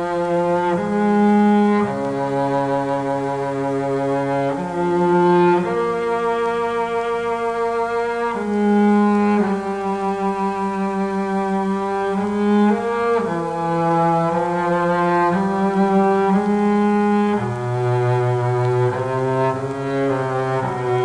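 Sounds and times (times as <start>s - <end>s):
low bowed strings: 0.0s - 21.0s.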